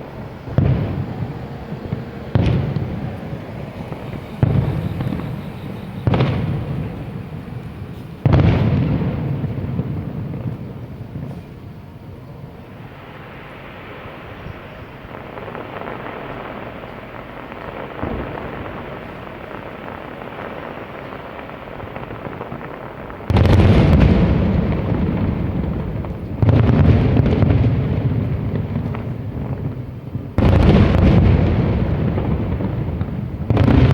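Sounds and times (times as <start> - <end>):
fireworks shells booming: 0.0 - 33.9
low rumble of fireworks: 0.0 - 33.9.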